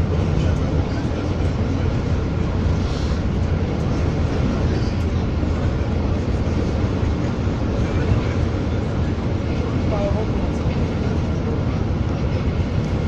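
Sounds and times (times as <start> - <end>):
bus engine and tyres rumbling: 0.0 - 13.0.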